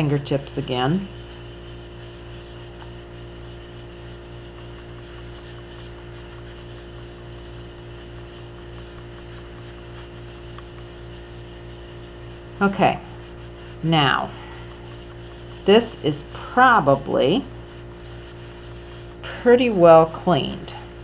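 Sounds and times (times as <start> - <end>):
fingertips rubbing paste: 0.0 - 20.2
constant hum: 0.0 - 21.0.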